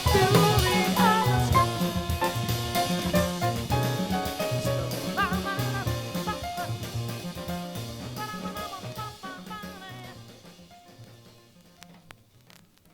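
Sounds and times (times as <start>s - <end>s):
jazz-samba band music: 0.0s - 12.9s.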